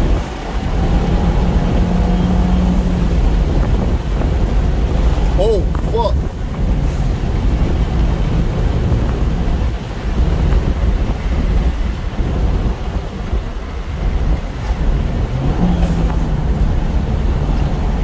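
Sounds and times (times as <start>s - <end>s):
low engine hum: 0.0s - 18.0s
tyre and road noise: 0.0s - 18.0s
wind buffeting microphone: 0.0s - 18.0s.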